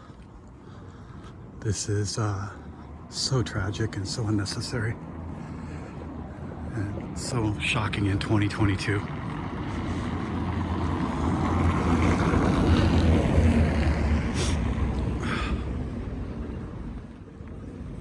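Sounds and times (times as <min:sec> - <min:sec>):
vehicle passing: 0:02.3 - 0:18.0.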